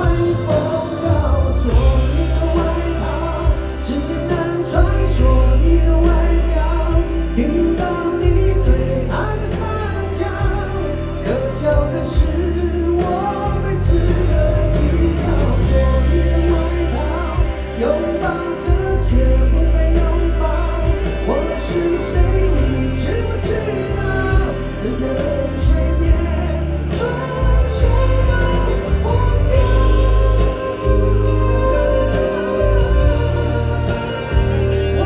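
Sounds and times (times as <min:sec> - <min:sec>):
heavy bass line: 0:00.0 - 0:35.0
person singing: 0:00.0 - 0:35.0.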